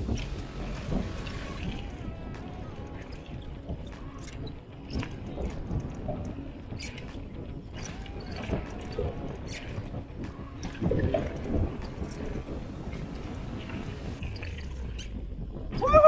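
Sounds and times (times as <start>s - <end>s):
bike clicking and rattling: 0.0s - 16.0s
bike tyres rumbling on ground: 0.0s - 16.0s.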